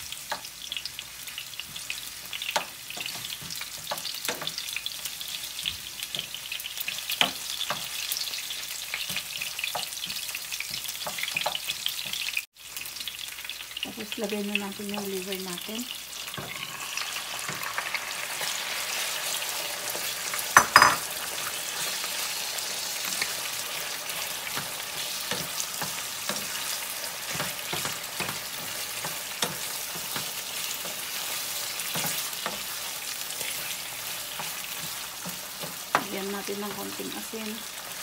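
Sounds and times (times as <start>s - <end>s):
chicken livers sizzling in oil: 0.0s - 38.0s.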